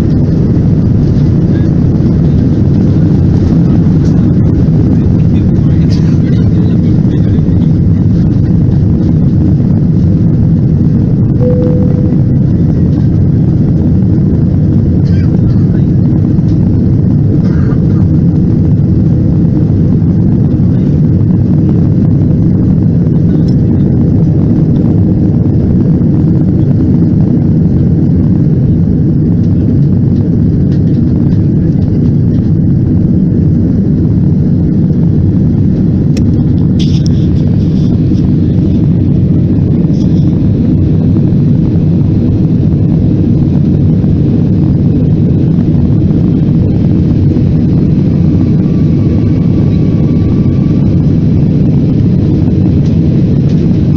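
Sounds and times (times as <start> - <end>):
jet engine drone in cabin: 0.0 - 53.9.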